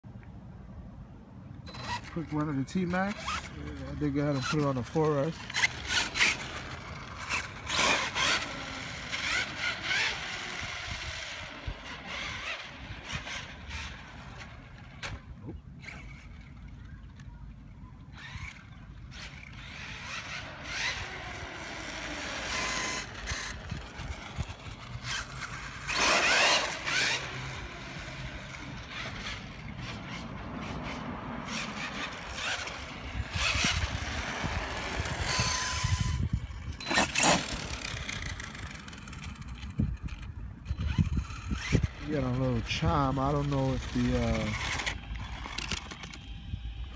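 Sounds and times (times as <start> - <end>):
rc truck drivetrain whining: 1.6 - 46.9.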